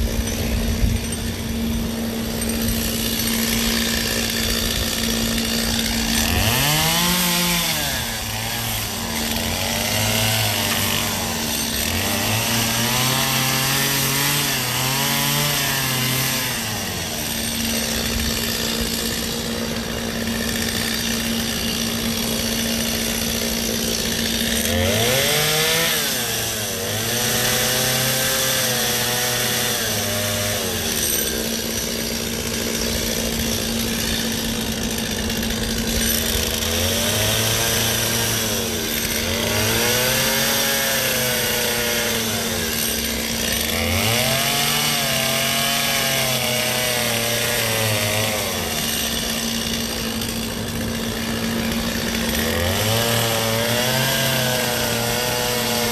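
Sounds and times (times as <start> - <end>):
chainsaw engine revving: 0.0 - 55.9.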